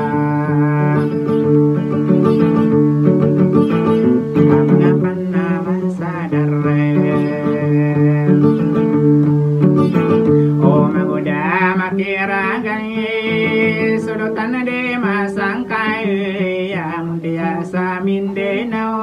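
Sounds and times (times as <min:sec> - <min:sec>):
man singing: 0:00.0 - 0:02.9, 0:03.8 - 0:19.0
strummed acoustic guitar: 0:00.0 - 0:19.0.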